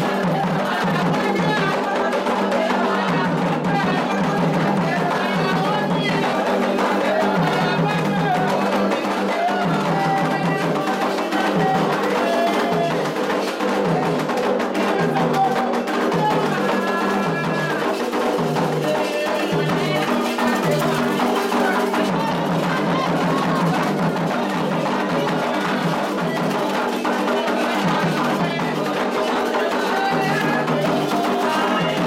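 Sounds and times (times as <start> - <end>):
hand drums playing: 0.0 - 32.0
voices singing: 0.0 - 32.0.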